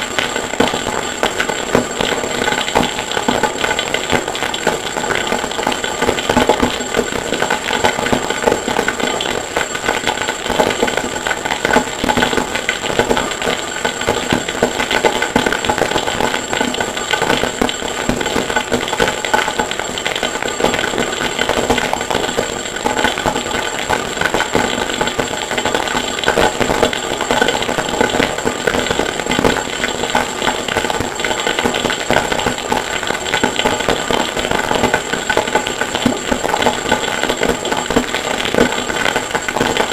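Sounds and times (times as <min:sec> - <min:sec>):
harsh crackling noise music: 0:00.0 - 0:39.9
steady high whine: 0:00.0 - 0:39.9.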